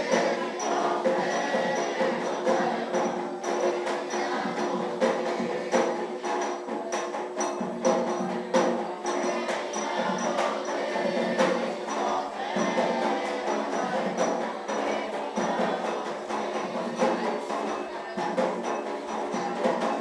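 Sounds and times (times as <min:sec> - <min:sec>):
hand drums and percussion: 0:00.0 - 0:20.0
voices singing a chant: 0:00.0 - 0:20.0.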